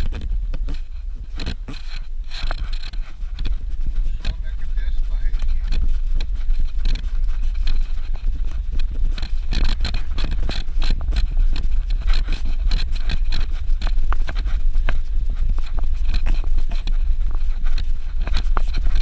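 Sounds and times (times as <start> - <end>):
off-road vehicle engine rumble: 0.0 - 19.0
tyres and suspension rattling: 0.0 - 19.0.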